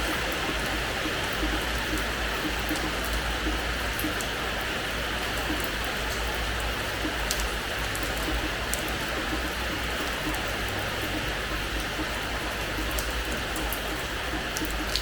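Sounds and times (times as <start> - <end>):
rain hissing on a hard floor: 0.0 - 15.0
raindrops ticking: 0.0 - 15.0.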